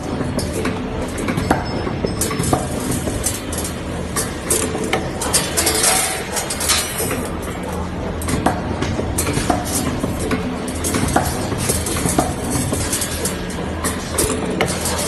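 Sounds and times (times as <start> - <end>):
machine motor hum: 0.0 - 15.0
metallic clicks and clacks: 0.0 - 15.0.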